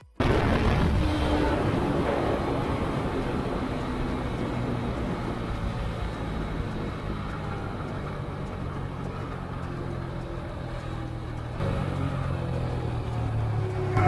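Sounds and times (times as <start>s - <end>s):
road noise: 0.0s - 14.0s
motorcycle engine decelerating: 0.6s - 14.0s.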